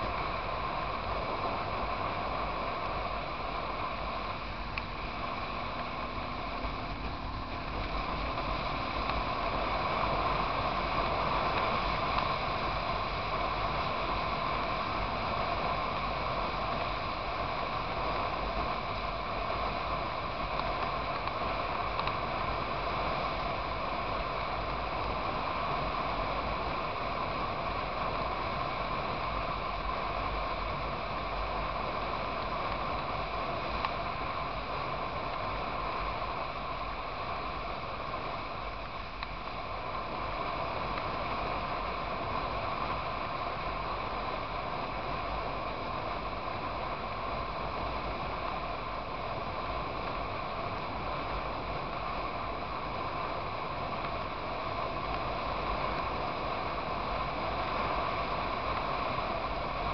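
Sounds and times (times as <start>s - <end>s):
motorcycle road noise: 0.0s - 59.9s
wind rush: 0.0s - 59.9s.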